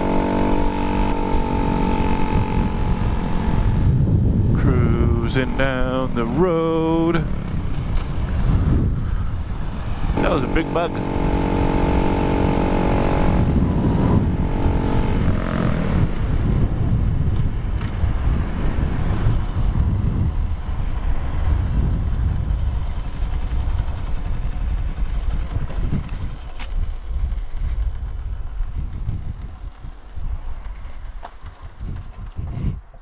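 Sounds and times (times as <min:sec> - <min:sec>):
motorcycle engine running: 0:00.0 - 0:32.6
wind noise: 0:00.0 - 0:33.0.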